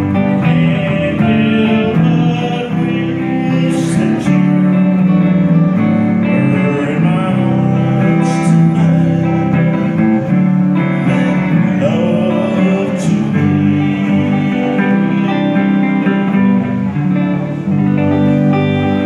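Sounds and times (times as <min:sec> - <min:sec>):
electric guitars playing: 0:00.0 - 0:19.0.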